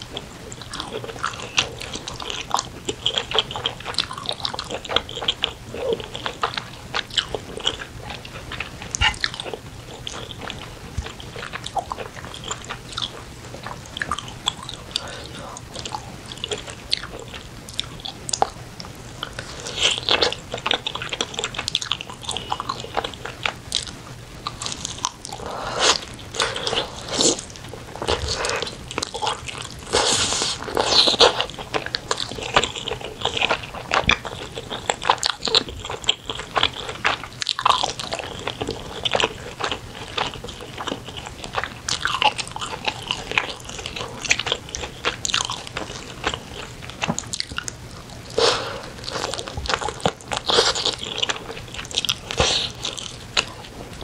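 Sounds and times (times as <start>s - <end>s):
wet chewing and mouth smacking: 0.1s - 54.0s.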